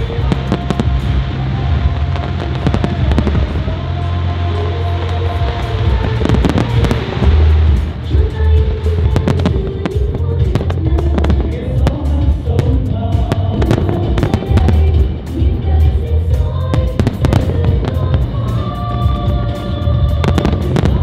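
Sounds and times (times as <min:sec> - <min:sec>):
low booming rumble: 0:00.0 - 0:18.5
fireworks bangs and crackling: 0:00.0 - 0:21.0
music playing: 0:00.0 - 0:21.0.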